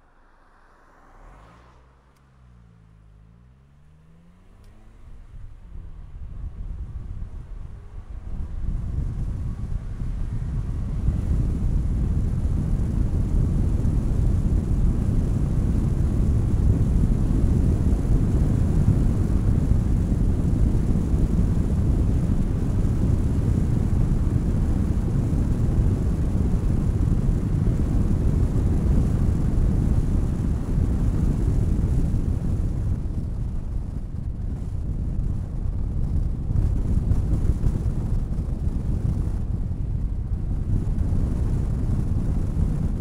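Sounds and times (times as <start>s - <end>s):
tyre and engine rumble: 0.0s - 43.0s
wind buffeting microphone: 4.8s - 43.0s.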